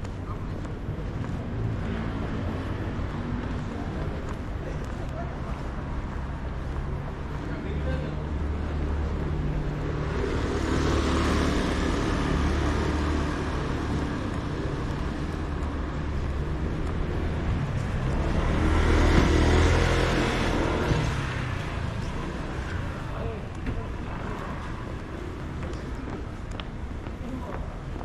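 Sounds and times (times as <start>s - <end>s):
cars passing: 0.0s - 28.0s
traffic engine hum: 0.0s - 28.0s.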